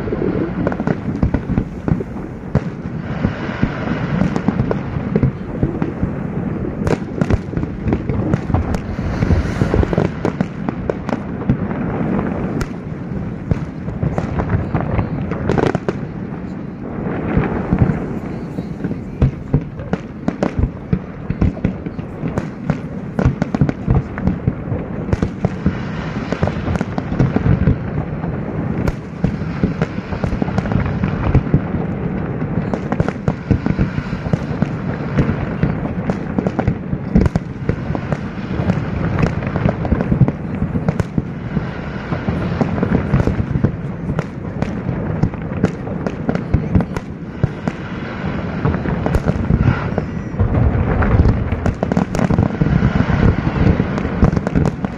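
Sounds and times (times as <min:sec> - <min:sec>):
fireworks bangs and booms: 0:00.0 - 0:54.9
fireworks crackle: 0:00.0 - 0:54.9.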